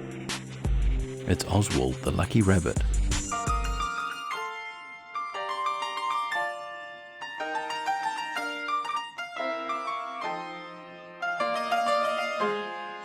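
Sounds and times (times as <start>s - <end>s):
light keyboard melody: 0.9s - 13.0s.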